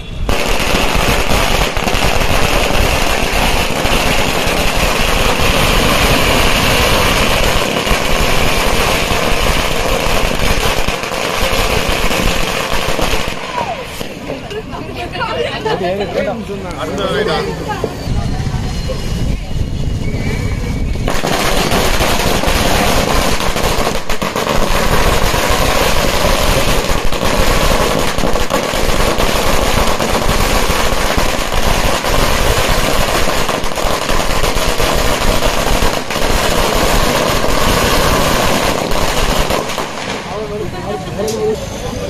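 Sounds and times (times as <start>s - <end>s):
firecrackers crackling: 0.0s - 42.0s.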